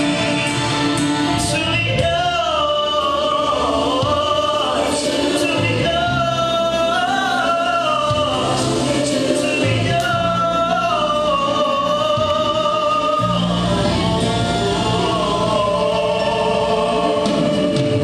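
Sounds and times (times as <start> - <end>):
backing music: 0.0 - 18.0
man singing ballad: 1.3 - 18.0.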